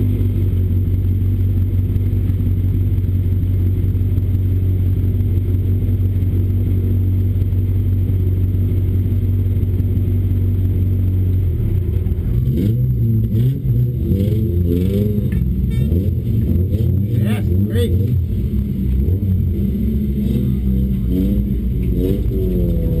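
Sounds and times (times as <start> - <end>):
race car engine idling: 0.0 - 23.0.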